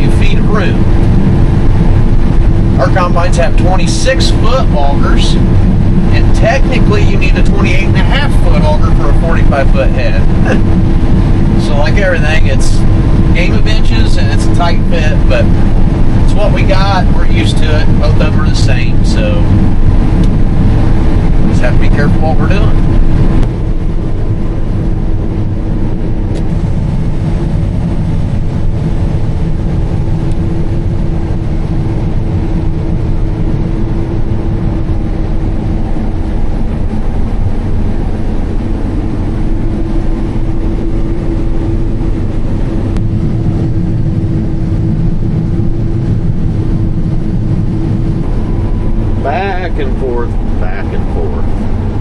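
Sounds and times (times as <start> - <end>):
combine harvester engine drone: 0.0 - 52.0
steady whine: 0.0 - 52.0.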